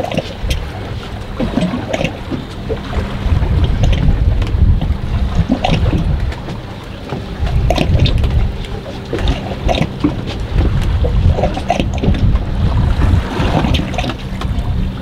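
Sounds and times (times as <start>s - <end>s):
water slapping against boat hull: 0.0s - 15.0s
wind buffeting microphone: 0.0s - 15.0s.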